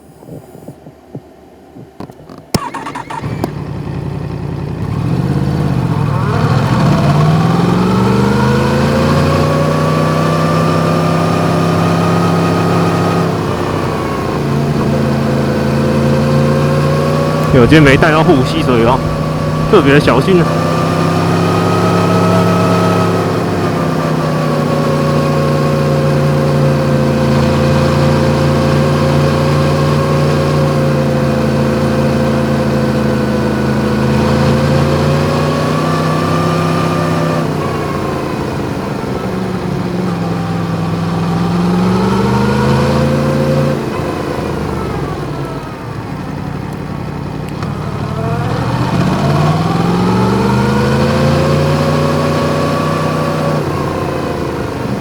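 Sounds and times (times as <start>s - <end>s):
motorcycle engine revving: 2.0s - 45.6s, 47.5s - 55.0s.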